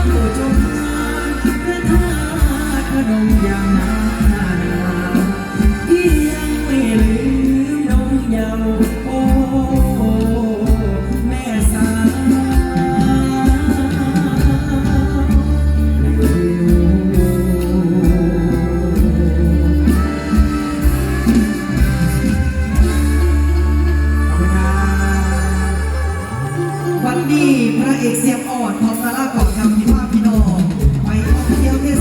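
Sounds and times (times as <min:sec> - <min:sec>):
heavy bass and drum beat: 0:00.0 - 0:26.1, 0:28.8 - 0:32.0
person singing: 0:00.0 - 0:32.0.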